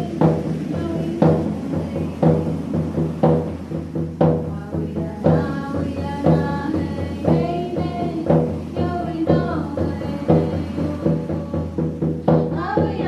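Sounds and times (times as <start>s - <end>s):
women singing: 0.0s - 3.5s, 4.2s - 13.0s
frame drums beating: 0.0s - 13.0s.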